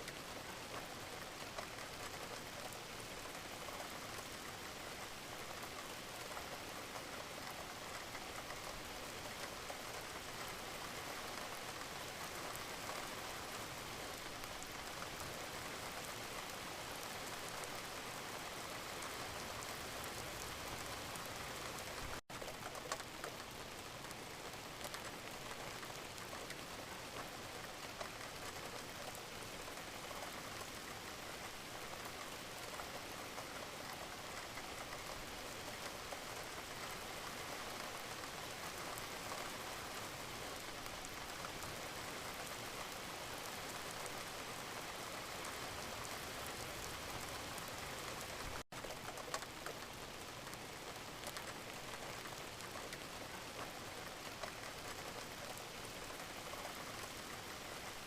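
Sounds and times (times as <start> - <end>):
gentle steady rain: 0.0 - 58.0.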